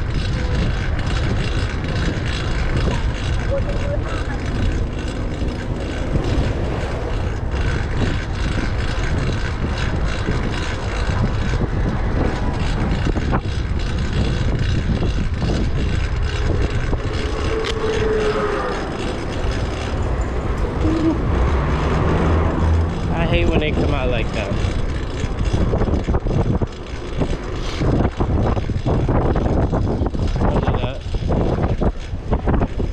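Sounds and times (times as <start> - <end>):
bicycle ride noise: 0.0 - 32.9
loud bicycle drivetrain: 0.0 - 32.9.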